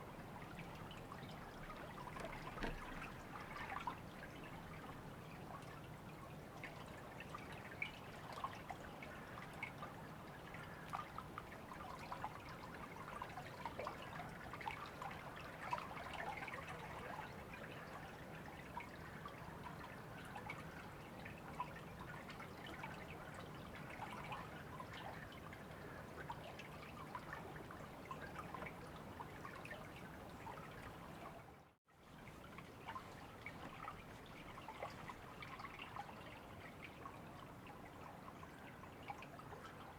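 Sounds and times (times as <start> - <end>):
water splashes and drips: 0.2 - 39.9.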